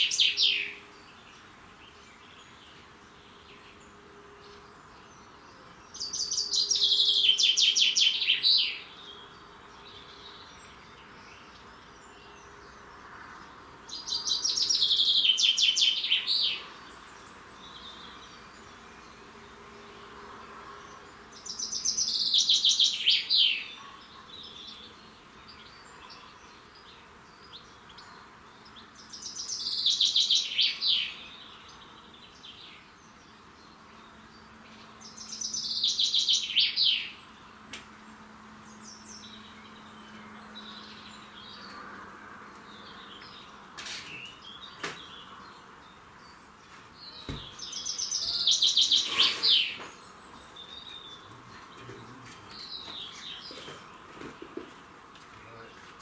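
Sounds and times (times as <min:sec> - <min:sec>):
songbird singing rapid notes: 0:00.0 - 0:13.0, 0:13.8 - 0:20.2, 0:20.8 - 0:41.9, 0:42.6 - 0:56.0.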